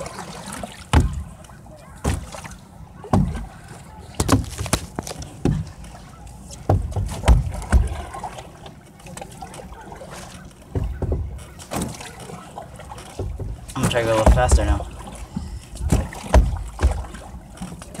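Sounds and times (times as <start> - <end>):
paddle splashes and hull knocks: 0.0 - 18.0.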